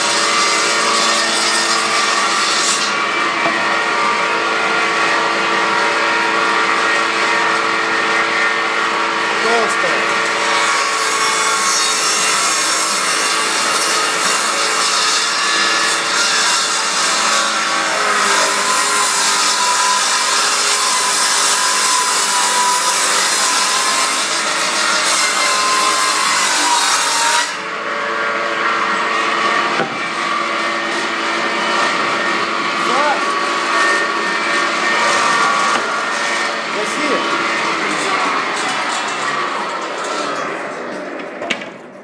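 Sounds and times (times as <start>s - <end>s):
machine cutting wooden board: 0.0s - 41.8s.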